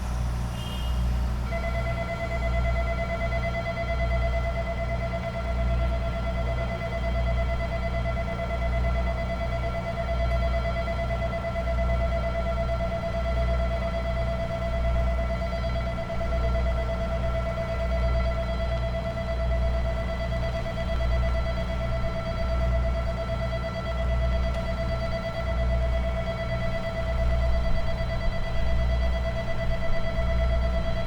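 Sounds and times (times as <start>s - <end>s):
diesel engine rumble: 0.0s - 31.0s.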